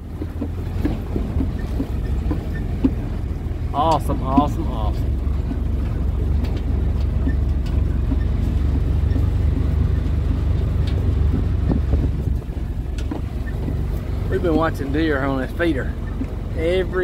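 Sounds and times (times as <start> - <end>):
knocks and rattles: 0.0 - 17.0
vehicle engine running: 0.0 - 17.0.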